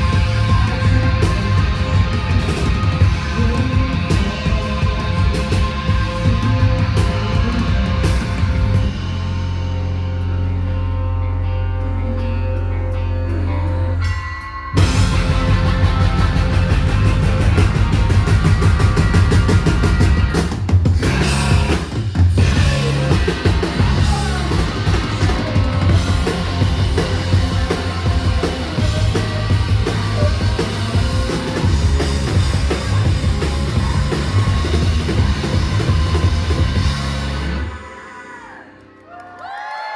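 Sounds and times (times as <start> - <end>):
drum kit: 0.0 - 10.9, 14.8 - 37.8
live rock band playing: 0.0 - 13.5, 14.8 - 37.7
bass guitar: 0.0 - 37.9.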